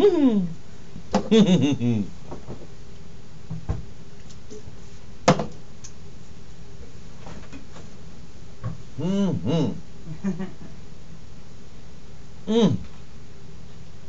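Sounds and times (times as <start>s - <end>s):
room hiss: 0.0s - 14.0s.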